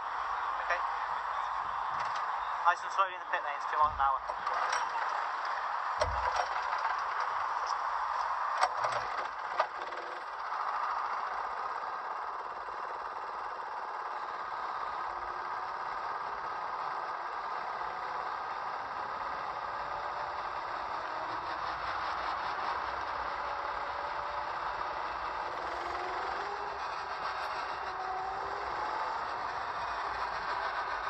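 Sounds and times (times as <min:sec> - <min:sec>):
go-kart engine running: 0:03.6 - 0:31.0.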